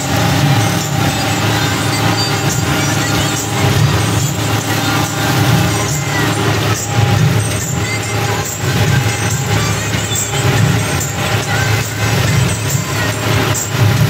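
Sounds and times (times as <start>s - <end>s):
implement churning: 0.0s - 14.0s
tractor diesel engine under load: 0.0s - 14.0s.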